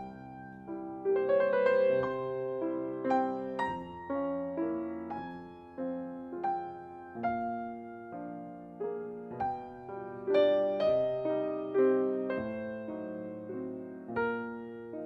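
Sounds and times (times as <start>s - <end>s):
solo piano melody: 0.0s - 15.0s.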